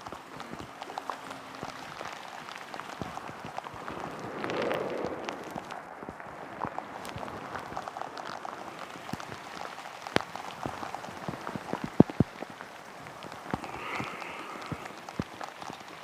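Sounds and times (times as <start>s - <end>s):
rain falling: 0.0s - 16.0s
raindrops tapping close: 0.0s - 16.0s.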